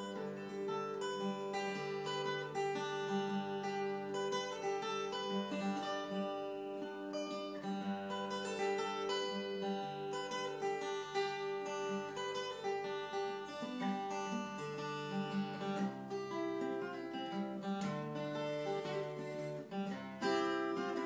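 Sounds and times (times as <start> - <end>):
acoustic guitar folk tune: 0.0 - 21.0.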